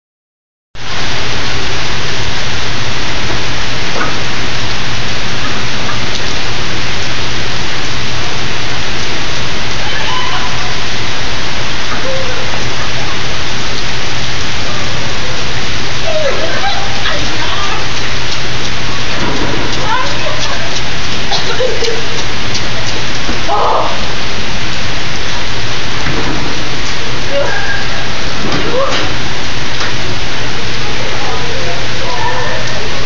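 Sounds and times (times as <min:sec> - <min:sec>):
heavy rain on paving: 0:00.8 - 0:33.0.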